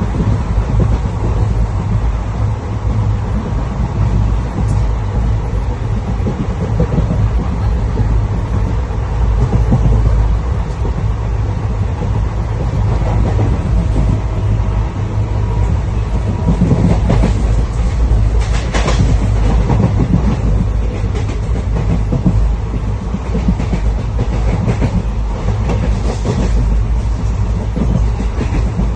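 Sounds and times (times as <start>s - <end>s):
train rattling: 0.0s - 28.9s
train rumbling along rails: 0.0s - 28.9s.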